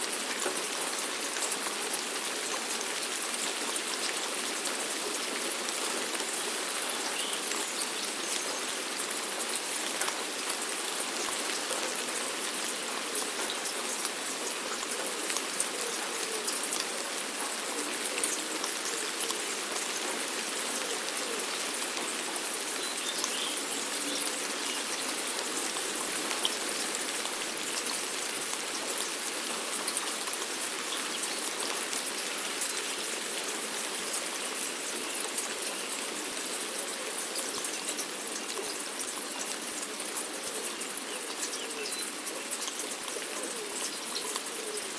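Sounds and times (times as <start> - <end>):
steady rainfall: 0.0 - 44.9.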